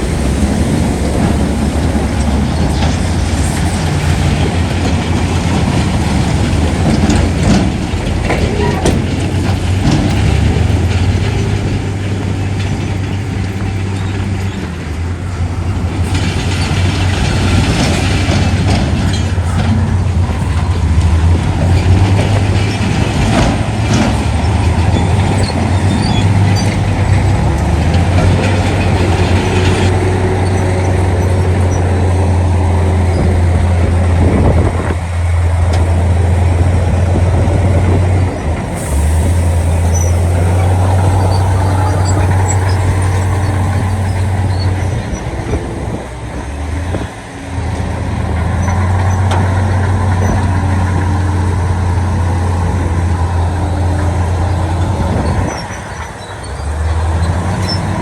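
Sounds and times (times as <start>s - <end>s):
heavy diesel machines droning: 0.0s - 58.0s.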